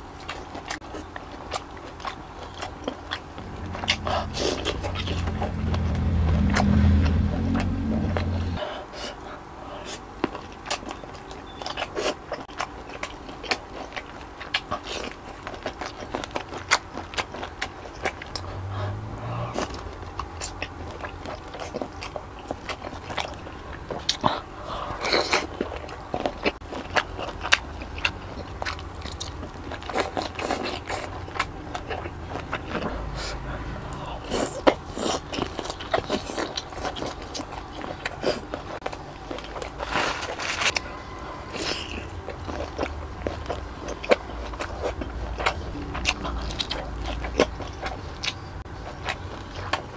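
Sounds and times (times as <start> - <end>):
person chewing wetly: 0.0 - 49.9.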